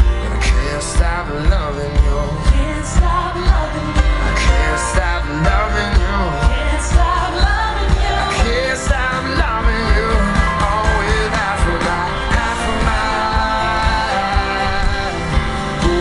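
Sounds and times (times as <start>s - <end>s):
bass: 0.0s - 16.0s
drum beat: 0.0s - 16.0s
live pop-rock band playing: 0.0s - 16.0s
person singing: 0.0s - 16.0s.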